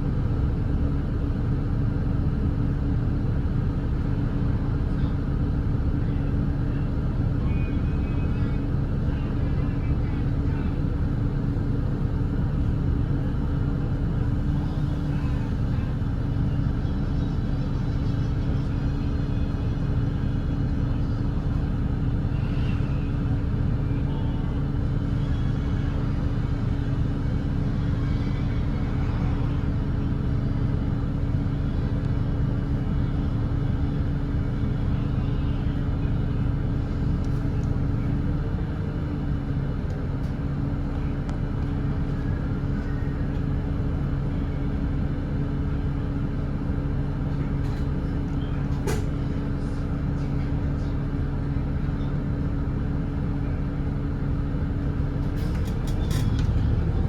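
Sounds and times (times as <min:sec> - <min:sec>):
diesel bus engine droning: 0:00.0 - 0:57.0.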